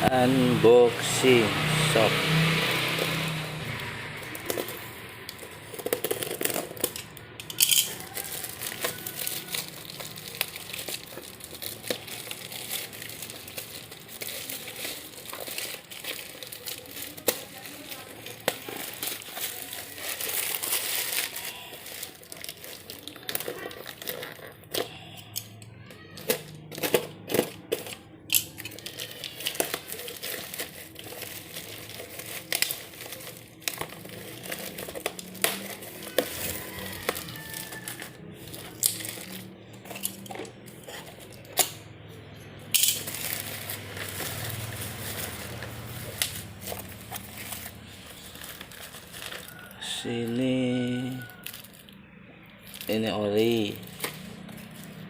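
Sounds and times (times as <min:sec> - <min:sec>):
wrapping rustling: 0:01.0 - 0:55.0.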